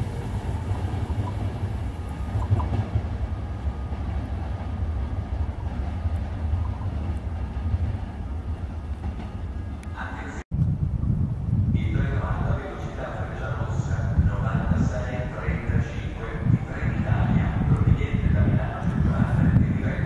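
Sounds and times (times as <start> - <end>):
passenger train rumbling on tracks: 0.0 - 20.0.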